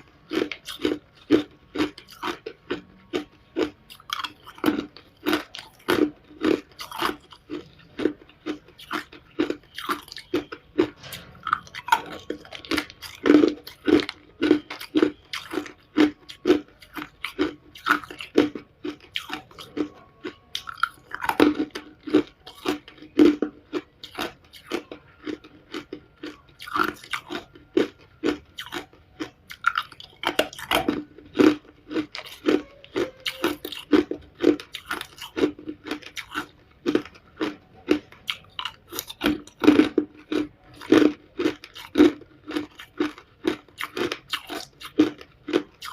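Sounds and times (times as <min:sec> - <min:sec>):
person crunching ice cubes: 0:00.0 - 0:45.9.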